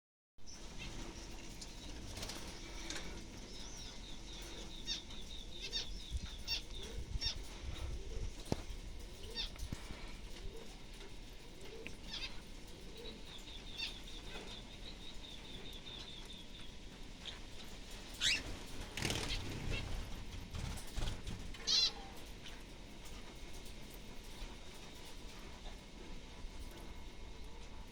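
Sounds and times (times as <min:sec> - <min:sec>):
wing flutters: 0:00.5 - 0:15.7, 0:16.7 - 0:27.7
small birds chirping: 0:00.5 - 0:27.7.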